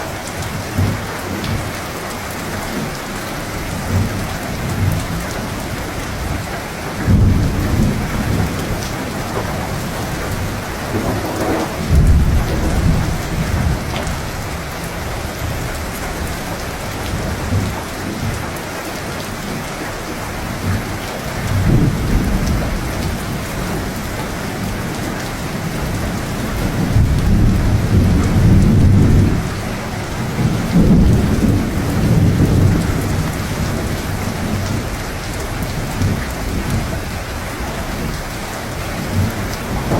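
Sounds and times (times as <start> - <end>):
heavy rain: 0.0 - 39.9
thunder rumbling: 3.6 - 18.5, 20.3 - 39.9.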